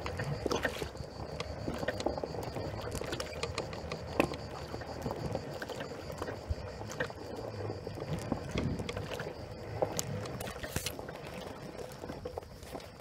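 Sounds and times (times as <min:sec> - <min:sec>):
pebbles clicking under tyres: 0:00.0 - 0:13.0
water splashing: 0:00.0 - 0:13.0.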